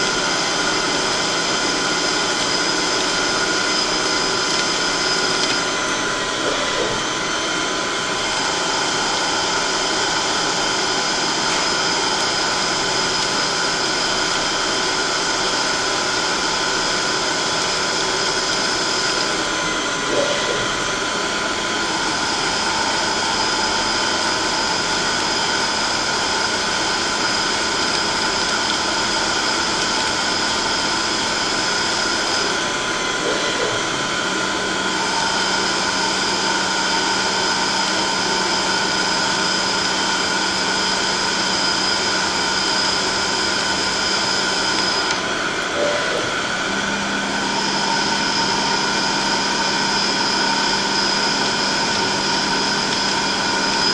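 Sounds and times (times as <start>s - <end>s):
high machine whine: 0.0s - 53.9s
machine tool humming: 0.0s - 53.9s.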